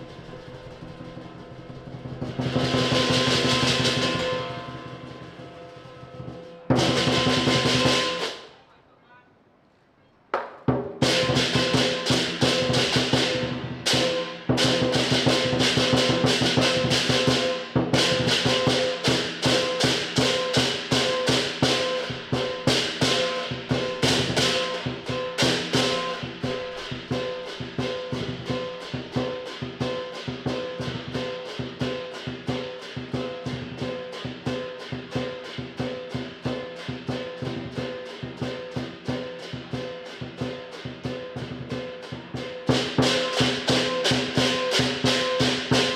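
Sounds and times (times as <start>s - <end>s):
drum beating fast: 0.0s - 8.5s, 10.7s - 45.9s
cymbals clashing: 0.0s - 8.6s, 11.0s - 45.9s.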